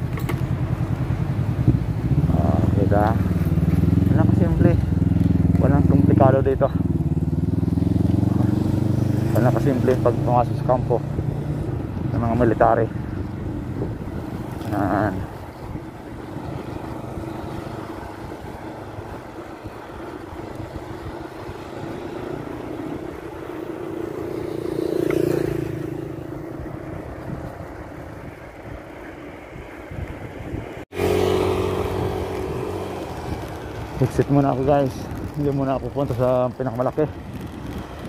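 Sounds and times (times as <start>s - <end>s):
wind noise on microphone: 0.0s - 5.1s, 7.4s - 23.6s, 25.2s - 38.0s
motor vehicle passing: 0.0s - 38.0s
traffic rumble: 0.0s - 38.0s.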